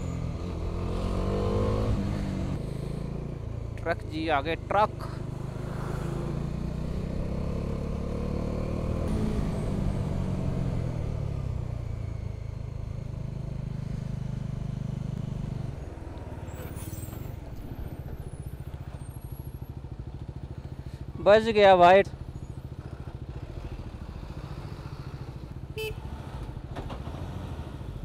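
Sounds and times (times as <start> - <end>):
motorcycle engine running: 0.0 - 16.6, 17.4 - 26.7.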